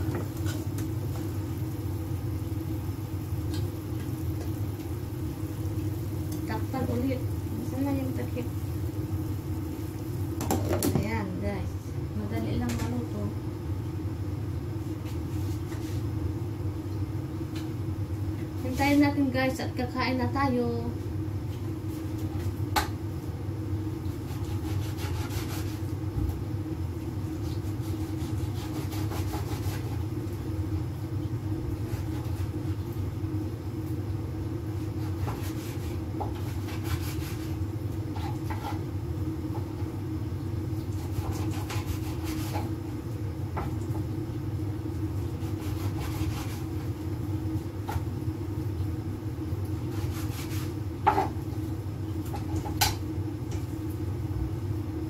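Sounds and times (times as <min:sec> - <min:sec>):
pot boiling rumble: 0:00.0 - 0:24.8, 0:25.5 - 0:55.0.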